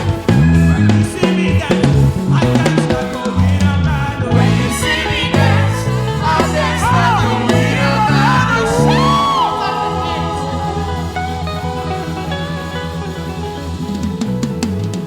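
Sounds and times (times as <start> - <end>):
person singing vocal runs: 0.0 - 14.1
gospel band playing: 0.0 - 15.0.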